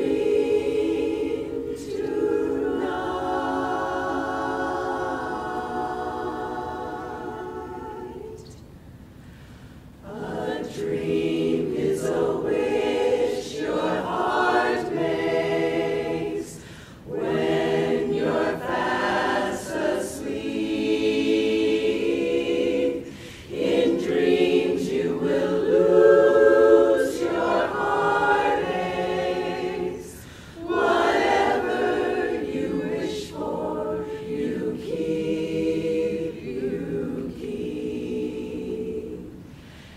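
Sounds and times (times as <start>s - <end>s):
women's chorus singing a cappella: 0.0s - 8.7s, 9.8s - 39.9s.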